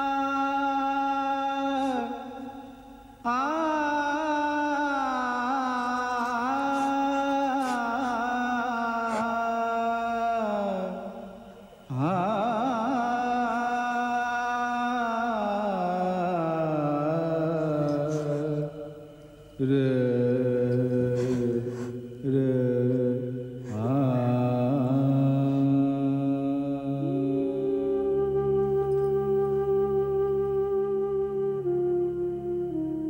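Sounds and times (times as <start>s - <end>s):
slow melody with wavering pitch: 0.0s - 33.0s.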